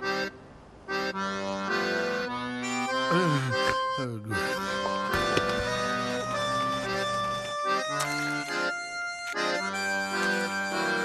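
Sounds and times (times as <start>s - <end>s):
accordion music: 0.0s - 11.0s.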